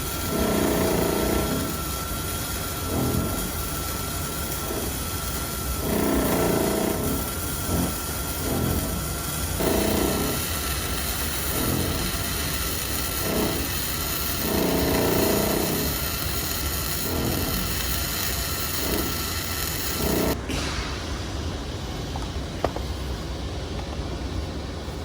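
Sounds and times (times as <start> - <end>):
welder humming: 0.0 - 20.8
welding arc hiss and crackle: 0.0 - 23.5.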